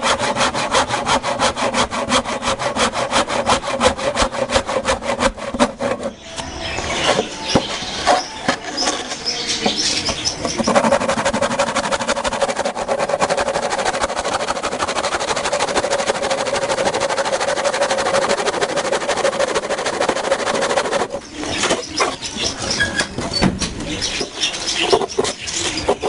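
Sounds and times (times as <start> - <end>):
handsaw rasping through wood: 0.0 - 6.2, 7.0 - 23.5, 24.1 - 26.0.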